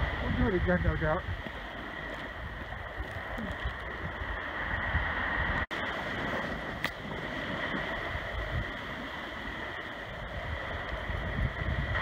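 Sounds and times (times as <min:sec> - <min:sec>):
ocean surf washing on sand: 0:00.0 - 0:12.0
wind rumbling on microphone: 0:00.0 - 0:12.0.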